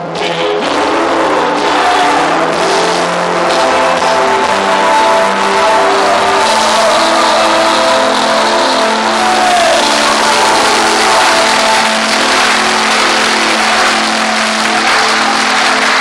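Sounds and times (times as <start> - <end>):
crowd clapping and applauding: 0.0 - 16.0
electronic keyboard chords: 0.0 - 16.0.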